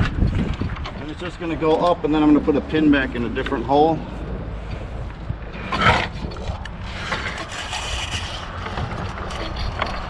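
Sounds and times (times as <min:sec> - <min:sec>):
wind rumble on microphone: 0:00.0 - 0:10.0
wooden pole scraping and clunking: 0:00.0 - 0:10.0.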